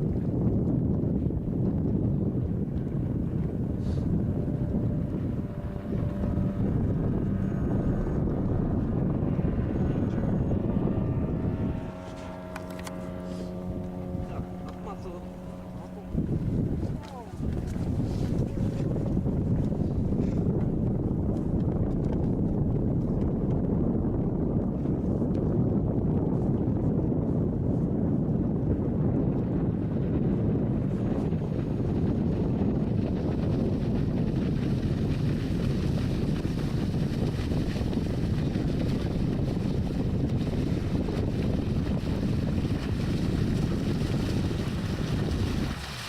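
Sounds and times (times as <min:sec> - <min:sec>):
motor boat running on water: 0:00.0 - 0:46.0
wind buffeting microphone: 0:00.0 - 0:46.0.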